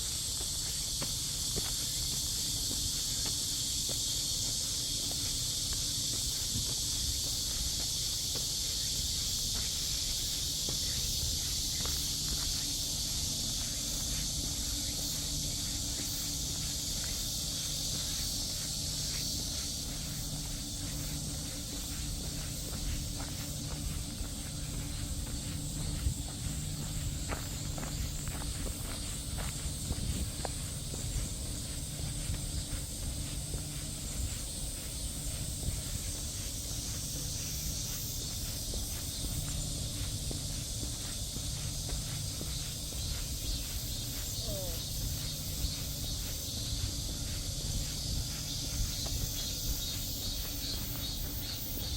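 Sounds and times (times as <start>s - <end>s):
cicadas buzzing: 0.0s - 51.9s
footsteps on a path: 0.0s - 51.9s
high-pitched hiss: 0.0s - 51.9s.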